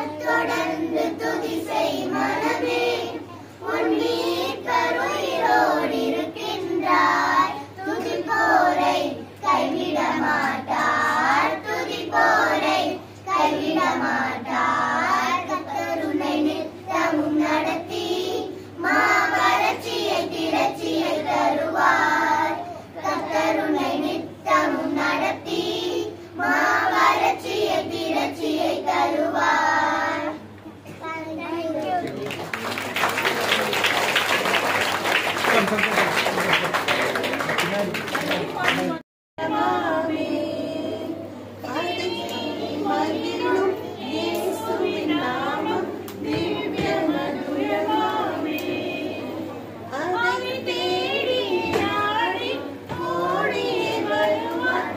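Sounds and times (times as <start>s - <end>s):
children singing together: 0.0s - 30.5s, 39.4s - 54.9s.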